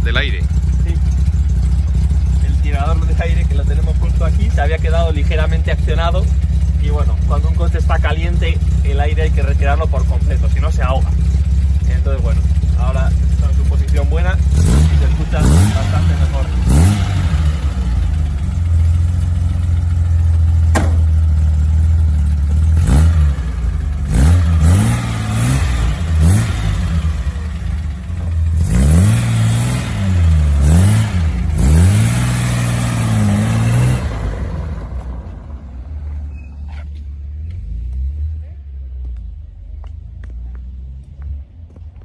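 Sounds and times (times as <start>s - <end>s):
car engine revving: 0.0s - 39.2s.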